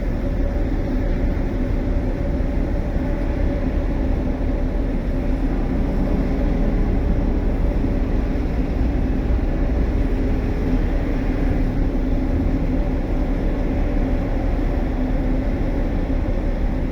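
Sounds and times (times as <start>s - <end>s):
boat diesel engine rumbling: 0.0s - 16.9s.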